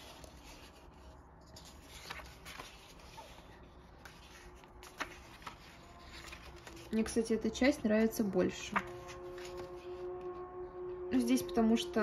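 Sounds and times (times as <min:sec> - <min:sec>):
paper pages turning: 0:00.0 - 0:10.4.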